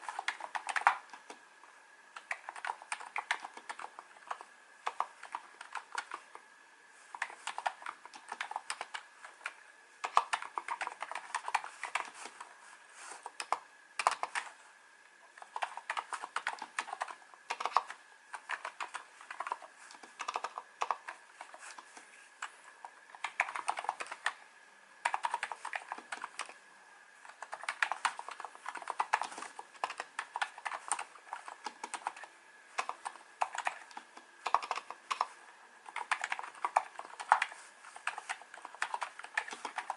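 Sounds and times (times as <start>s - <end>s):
keyboard typing: 0.0s - 1.4s, 2.1s - 6.4s, 7.1s - 12.5s, 13.1s - 14.6s, 15.3s - 24.4s, 25.0s - 26.6s, 27.2s - 39.9s.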